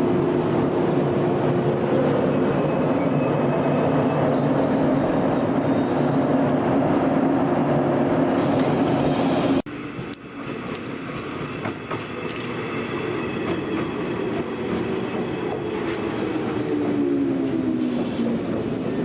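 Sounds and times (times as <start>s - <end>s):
electric train rumbling on rails: 0.0s - 19.0s.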